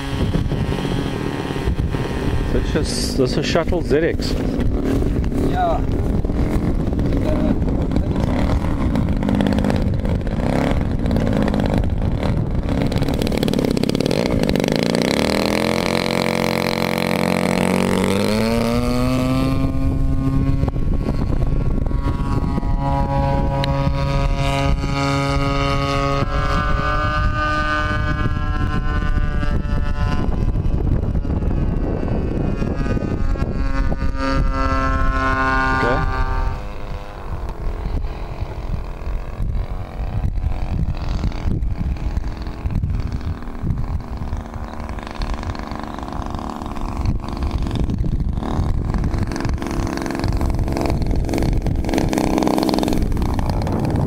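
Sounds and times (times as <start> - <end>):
model plane engine running: 0.0 - 54.0.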